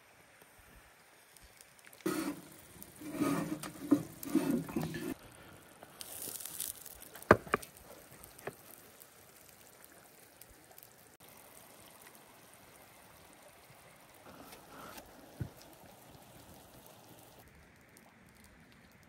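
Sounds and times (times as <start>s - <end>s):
small stream running: 0.0s - 19.0s.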